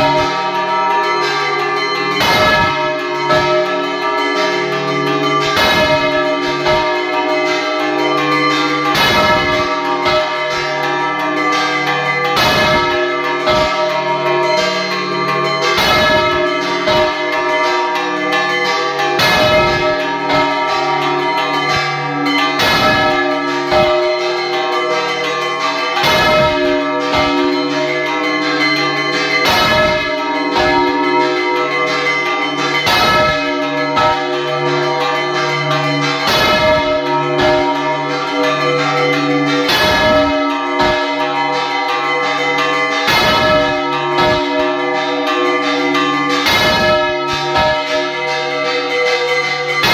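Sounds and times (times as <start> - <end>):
church bells pealing: 0.0 - 49.9.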